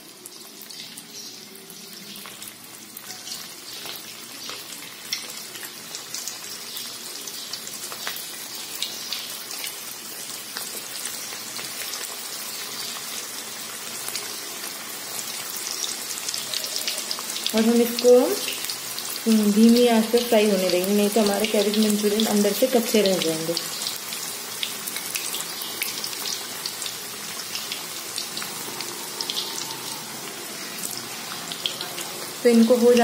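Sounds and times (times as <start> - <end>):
food deep-frying in hot oil: 0.0 - 33.0.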